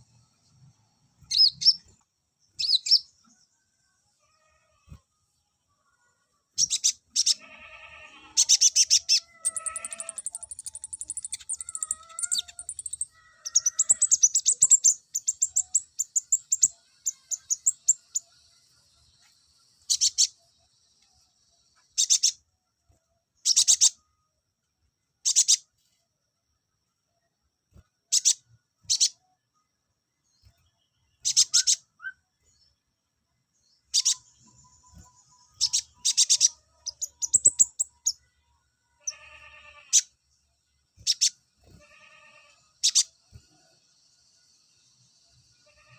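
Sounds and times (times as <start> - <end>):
sunbird chirping and trilling: 0.0 - 26.0, 26.8 - 45.9.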